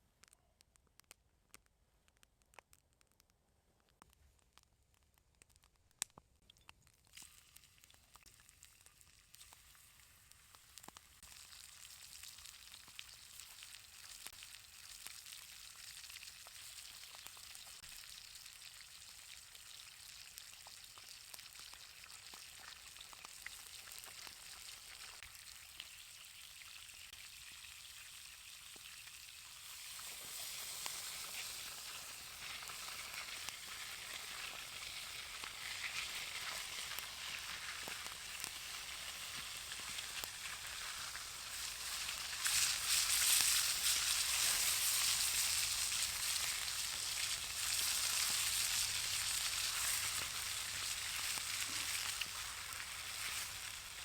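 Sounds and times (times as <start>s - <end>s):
steak sizzling in a pan: 7.0s - 54.0s.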